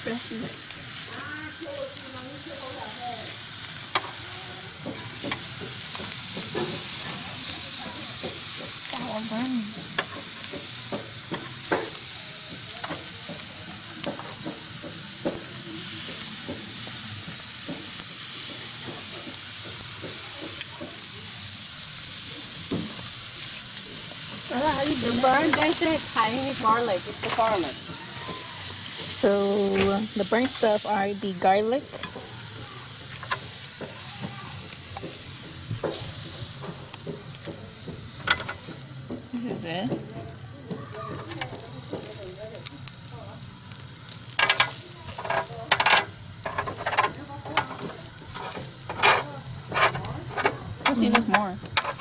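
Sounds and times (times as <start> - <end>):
prawns sizzling on grill: 0.0 - 52.0.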